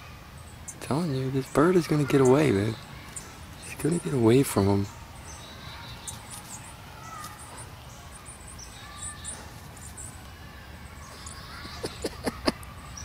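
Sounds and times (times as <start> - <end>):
low outdoor background: 0.0 - 13.0
small birds chirping: 0.0 - 13.0.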